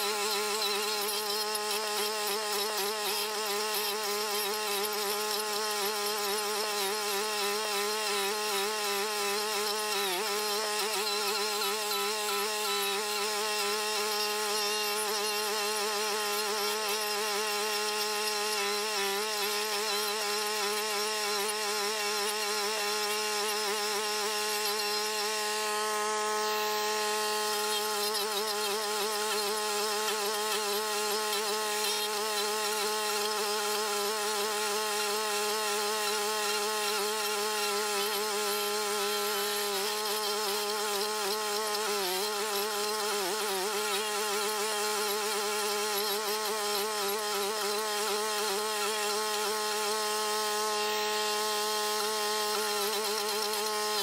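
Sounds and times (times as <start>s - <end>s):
stump grinder engine drone: 0.0s - 54.0s.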